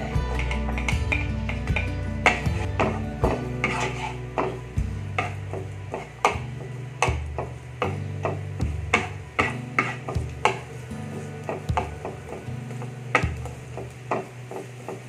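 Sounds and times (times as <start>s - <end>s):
low background music: 0.0s - 15.0s
spatula scraping frying pan: 0.0s - 15.0s.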